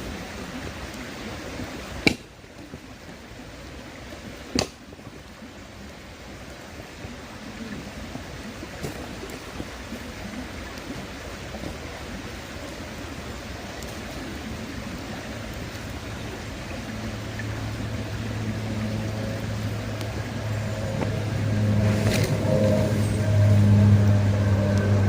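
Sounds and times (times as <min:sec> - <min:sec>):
bonfire burning: 0:00.0 - 0:25.0
river rushing: 0:00.0 - 0:25.0.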